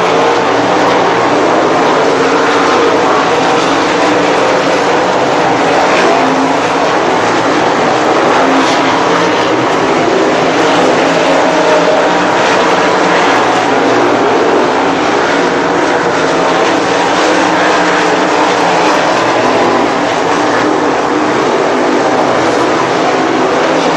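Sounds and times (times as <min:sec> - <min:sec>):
race car engines roaring: 0:00.0 - 0:23.9.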